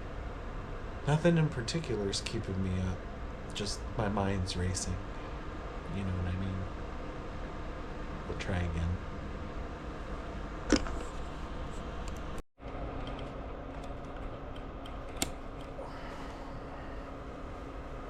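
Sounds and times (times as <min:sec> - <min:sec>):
space heater humming: 0:00.0 - 0:18.0.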